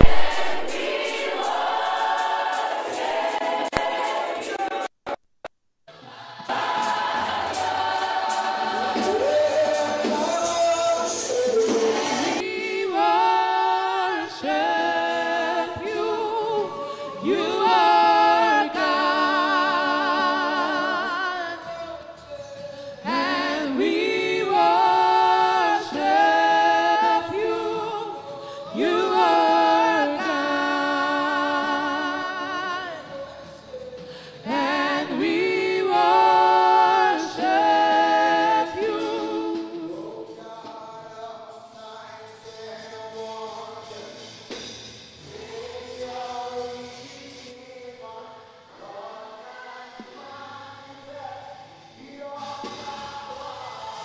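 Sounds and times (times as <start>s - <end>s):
gospel singing voices: 0.0s - 5.2s, 5.9s - 54.0s.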